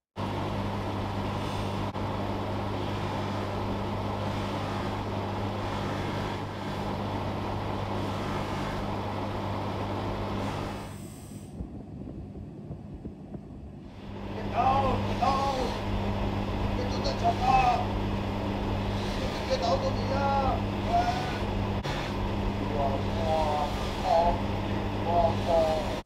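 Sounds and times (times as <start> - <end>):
polishing motor humming: 0.6 - 11.5, 13.9 - 26.0.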